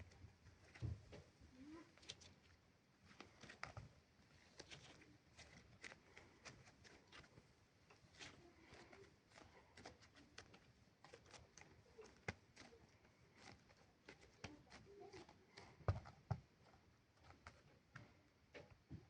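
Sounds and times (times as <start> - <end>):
clay clicking and crackling: 0.0 - 19.0.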